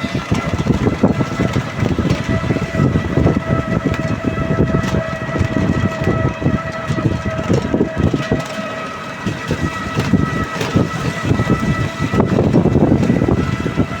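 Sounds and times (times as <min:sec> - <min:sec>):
steady droning tone: 0:00.0 - 0:14.0
wind buffeting microphone: 0:00.0 - 0:14.0.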